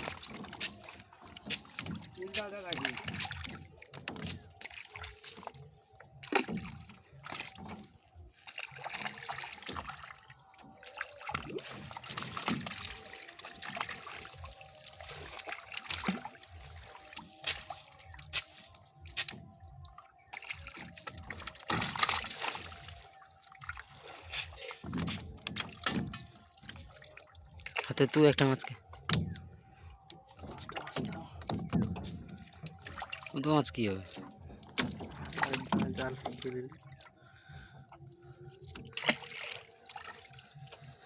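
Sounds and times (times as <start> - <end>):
water sloshing and splashing: 0.0 - 41.0.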